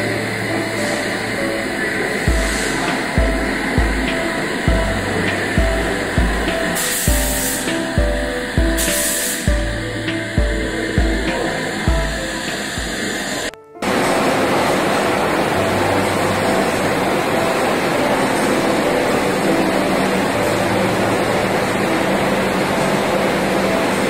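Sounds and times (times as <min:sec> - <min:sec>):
machinery running with low hum: 0:00.0 - 0:24.0.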